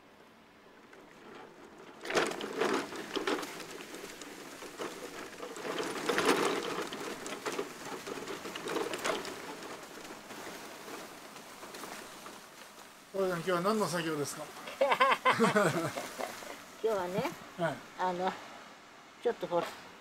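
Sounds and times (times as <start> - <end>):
crunching and scratching in dry grass: 1.0 - 17.4.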